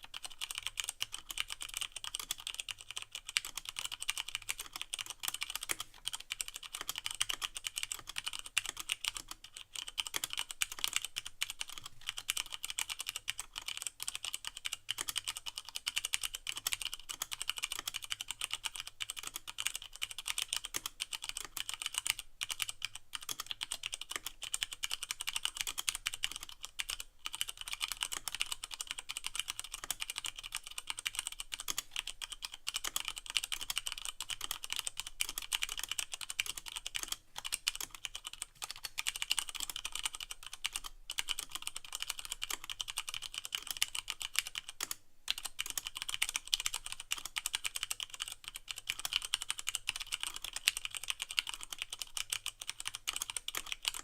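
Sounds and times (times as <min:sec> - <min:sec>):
fast mechanical keyboard typing: 0:00.0 - 0:54.0.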